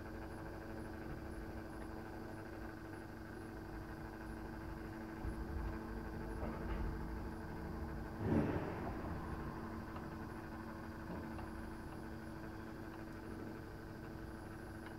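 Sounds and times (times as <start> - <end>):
motorised turntable humming: 0.0 - 14.9.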